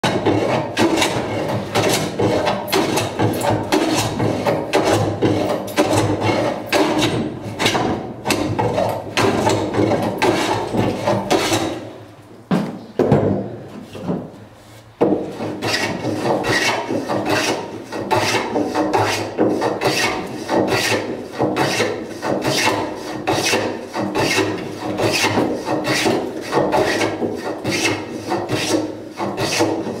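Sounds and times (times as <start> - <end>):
hand plane rasping on timber: 0.0 - 11.8, 15.0 - 30.0.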